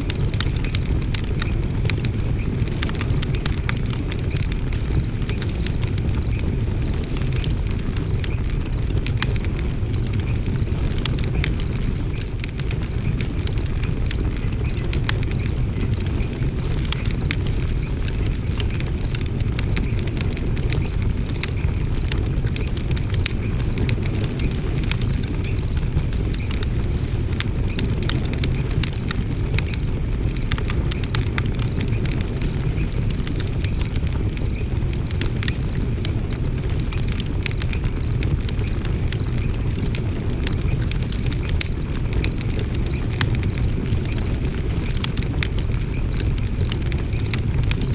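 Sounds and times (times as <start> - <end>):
low rumble of flame: 0.0 - 47.9
wood fire crackling and popping: 0.0 - 47.9.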